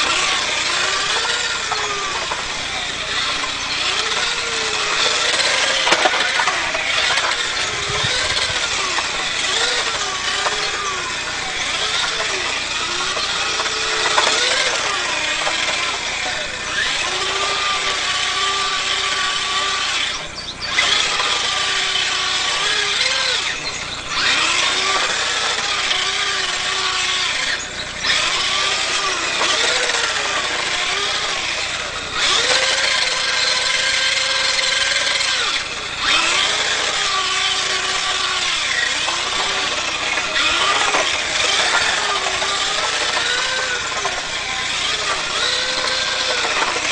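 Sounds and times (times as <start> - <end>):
small electric motor whining: 0.0 - 46.9.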